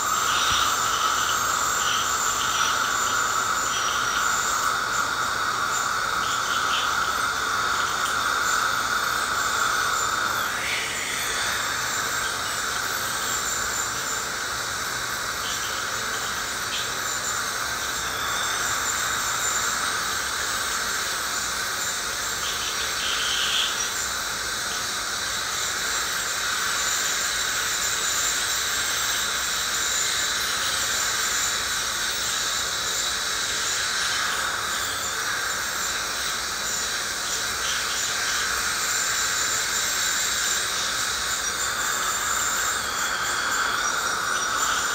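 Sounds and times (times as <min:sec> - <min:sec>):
ultrasonic scaler whine: 0:00.0 - 0:44.9.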